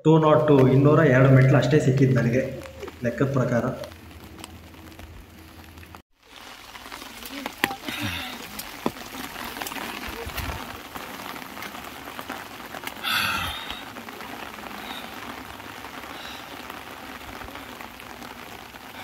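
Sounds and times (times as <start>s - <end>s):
light rain pattering: 0.4s - 19.0s.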